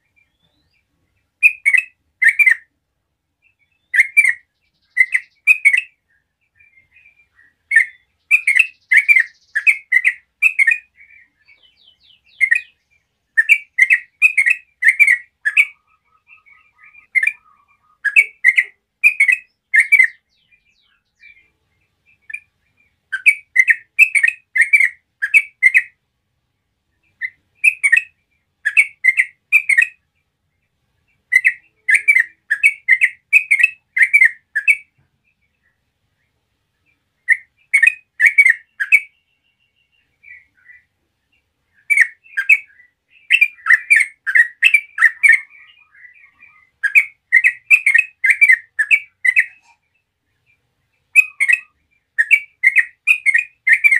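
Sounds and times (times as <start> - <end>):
bird chirping: 0.0 - 53.9.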